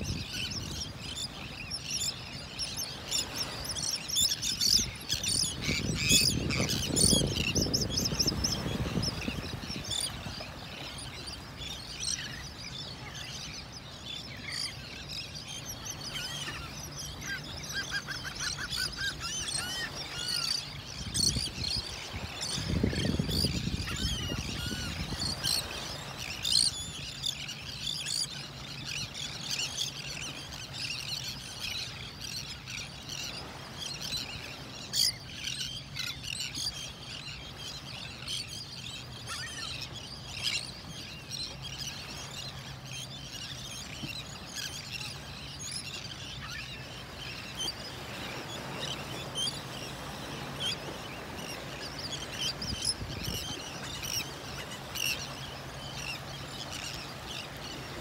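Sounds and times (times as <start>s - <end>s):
gulls and terns calling: 0.1s - 58.0s.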